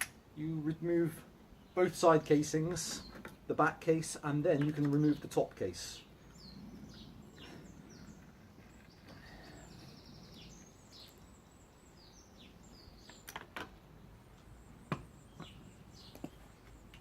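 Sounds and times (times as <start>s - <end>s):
faint background noise: 0.0s - 17.0s
small birds chirping: 0.0s - 17.0s.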